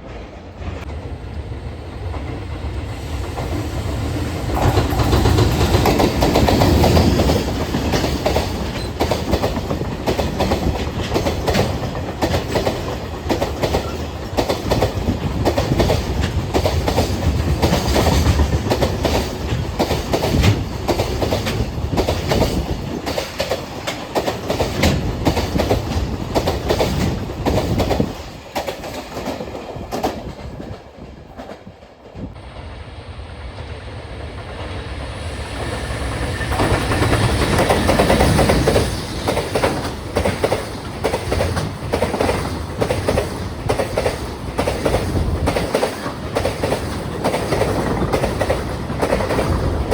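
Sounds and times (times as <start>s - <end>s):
freight train wheels clacking: 0.0s - 32.8s, 33.4s - 49.9s.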